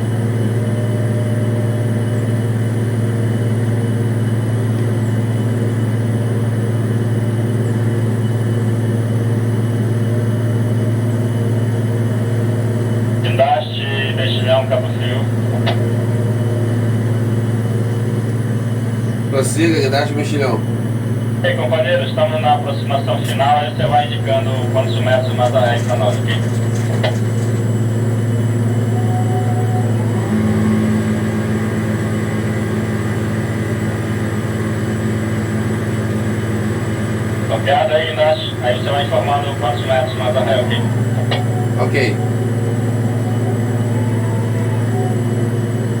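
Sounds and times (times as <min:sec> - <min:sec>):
large engine humming: 0:00.0 - 0:46.0.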